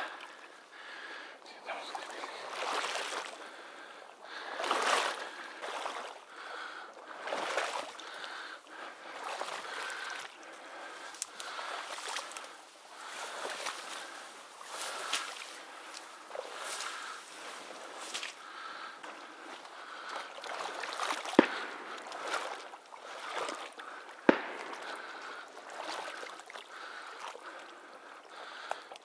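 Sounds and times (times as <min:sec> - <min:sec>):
wading splashing strides: 0:00.0 - 0:29.0.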